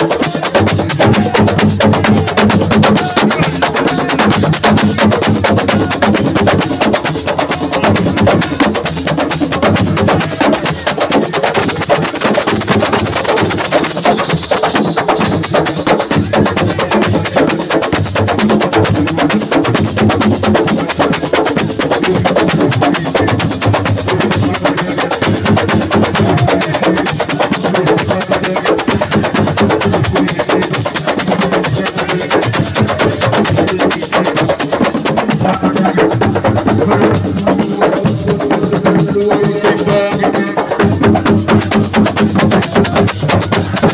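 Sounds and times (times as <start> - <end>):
fast drum and percussion music: 0.0 - 43.9.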